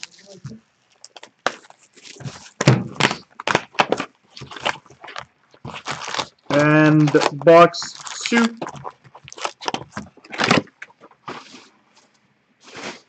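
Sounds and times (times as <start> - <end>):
cards and box being handled: 1.0 - 12.9.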